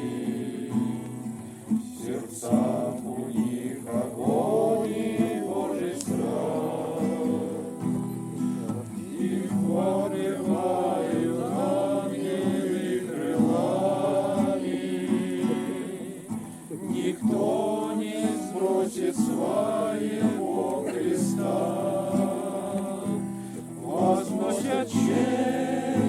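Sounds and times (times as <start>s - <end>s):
group singing a hymn: 0.0s - 26.0s
guitar: 0.0s - 26.0s.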